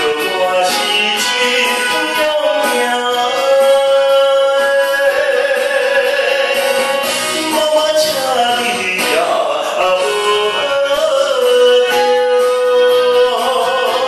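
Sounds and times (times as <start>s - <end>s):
karaoke backing track: 0.0s - 14.0s
man singing into a microphone: 0.0s - 14.0s.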